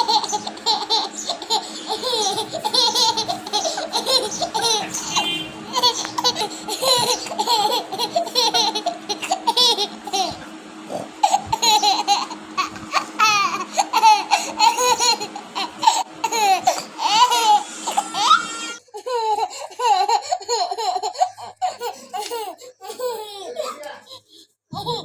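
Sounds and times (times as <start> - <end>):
baby laughing and squealing: 0.0 - 10.5, 11.2 - 23.8, 24.7 - 25.0
steady low hum: 0.0 - 23.2.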